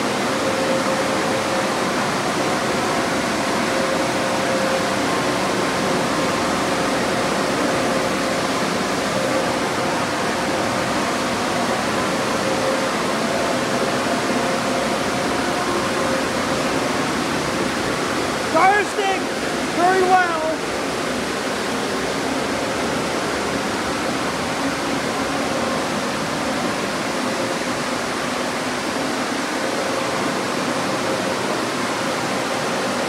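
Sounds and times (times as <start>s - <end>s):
car wash dryer blowers rushing air: 0.0s - 33.0s.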